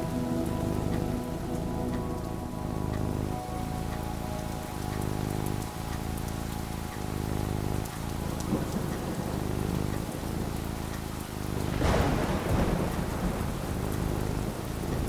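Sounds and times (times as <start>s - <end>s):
steady rain falling: 0.0s - 15.0s
thunder clap and rumble: 0.0s - 15.0s.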